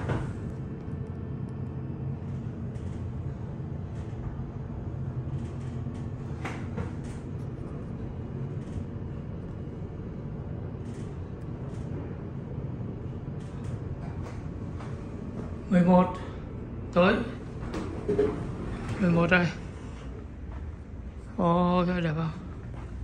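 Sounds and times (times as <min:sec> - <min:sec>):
elevator low rumble: 0:00.0 - 0:23.0.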